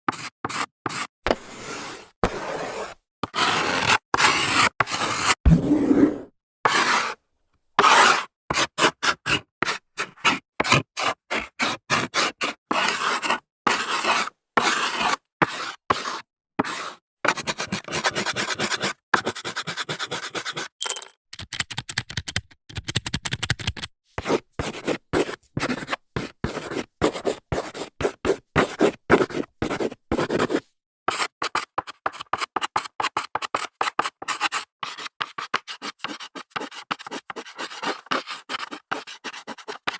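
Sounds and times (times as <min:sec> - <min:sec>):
chalk scraping on blackboard: 0:00.1 - 0:07.2, 0:07.8 - 0:20.7, 0:24.2 - 0:39.9.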